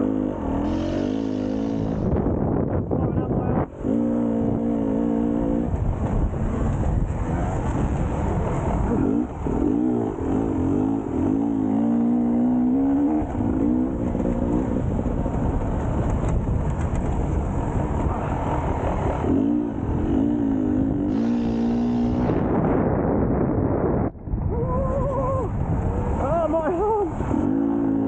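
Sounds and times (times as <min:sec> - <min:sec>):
motorcycle engine revving: 0:00.0 - 0:24.0, 0:27.2 - 0:28.0.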